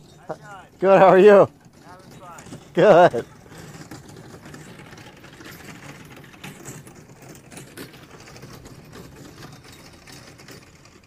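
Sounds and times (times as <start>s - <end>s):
golf cart towing cars: 0.0s - 11.0s
rapid mechanical chatter: 0.0s - 11.0s.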